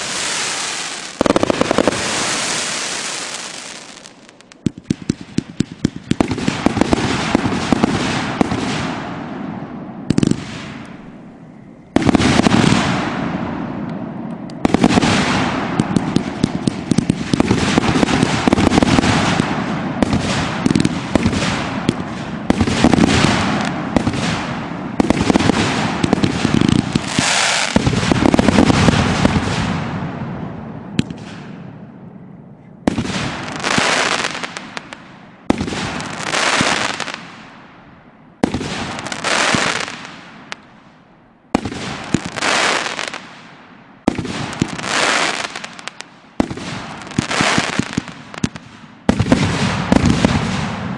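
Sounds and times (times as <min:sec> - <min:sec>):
fireworks popping and crackling: 0:00.0 - 0:09.3, 0:10.1 - 0:11.1, 0:12.0 - 0:30.2, 0:31.0 - 0:31.6, 0:32.9 - 0:37.6, 0:38.4 - 0:40.8, 0:41.5 - 0:50.9.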